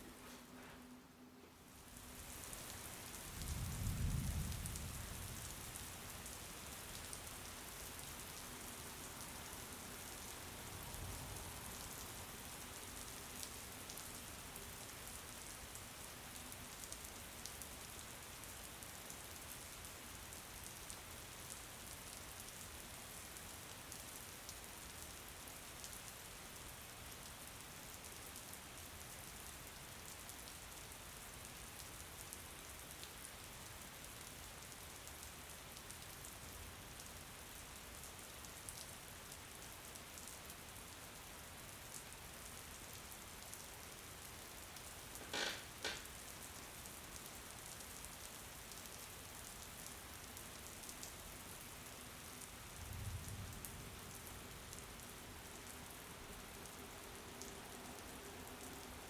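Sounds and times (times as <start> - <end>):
rain falling: 1.6 - 59.0.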